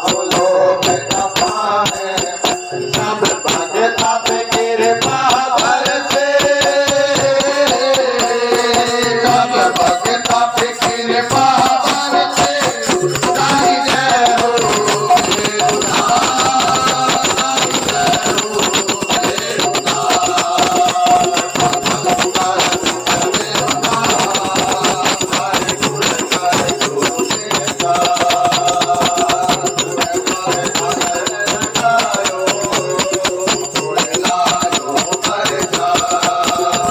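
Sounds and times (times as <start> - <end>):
jingling rattling percussion: 0.0 - 36.9.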